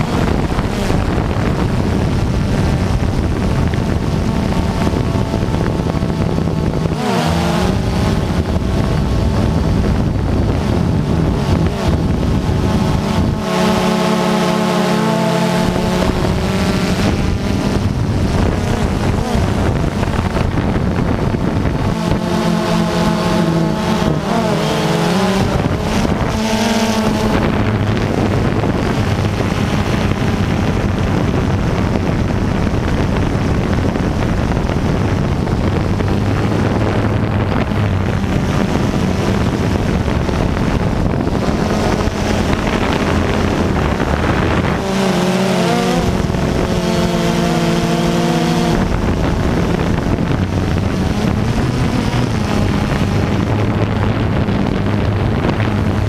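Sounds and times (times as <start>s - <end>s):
drone propellers whirring: 0.0s - 56.0s
wind noise on microphone: 0.0s - 56.0s.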